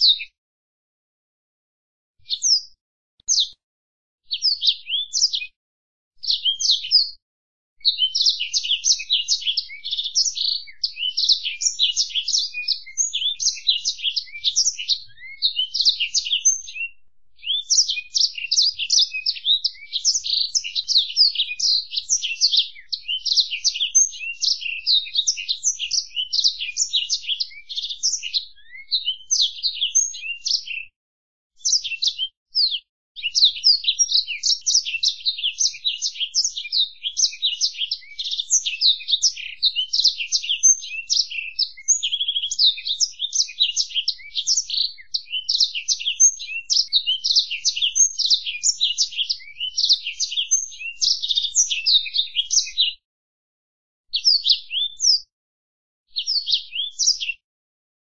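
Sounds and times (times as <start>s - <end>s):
canary singing trills: 0.0s - 0.4s, 2.2s - 3.6s, 4.3s - 5.6s, 6.2s - 7.2s, 7.8s - 30.9s, 31.6s - 53.0s, 54.2s - 55.3s, 56.1s - 57.4s.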